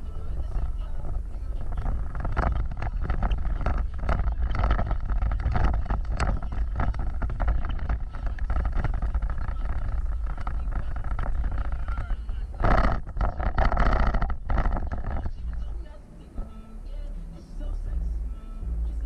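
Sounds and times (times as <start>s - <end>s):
vehicle knocks and rattles: 0.0s - 16.7s
off-road vehicle rumbling: 0.0s - 19.0s.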